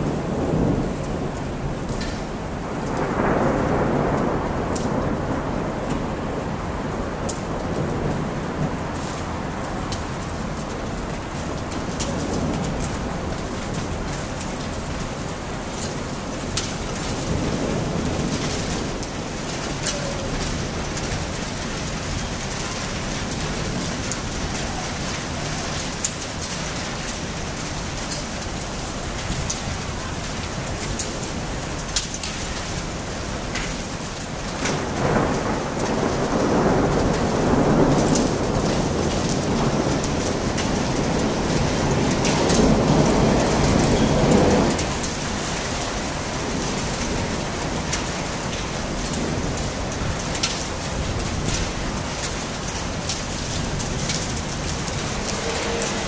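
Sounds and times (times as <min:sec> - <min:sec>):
rain falling: 0:00.0 - 0:56.0
thunder rumbling: 0:00.0 - 0:56.0.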